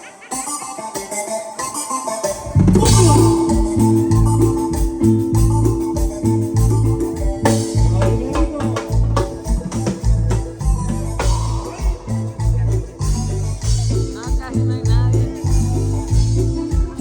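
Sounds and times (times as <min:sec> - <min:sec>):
electronic organ keyboard melody: 0:00.0 - 0:17.0
percussion: 0:00.0 - 0:17.0
repeating bass beat: 0:02.3 - 0:17.0.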